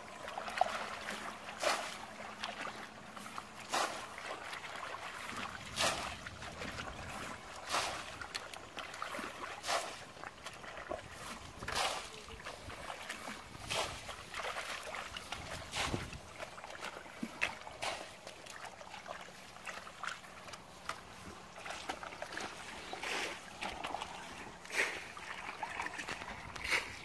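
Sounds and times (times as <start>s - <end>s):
hands splashing in muddy water: 0.0s - 27.0s.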